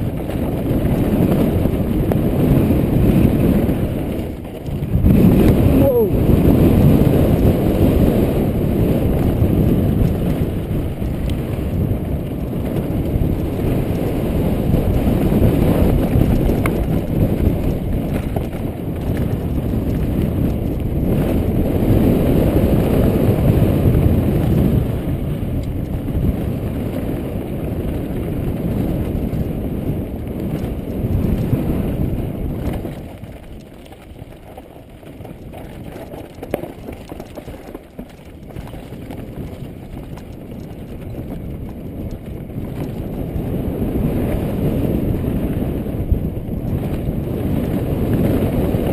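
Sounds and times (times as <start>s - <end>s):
bike tyres grinding over stones: 0.0s - 48.9s
wind rush on microphone: 0.0s - 48.9s.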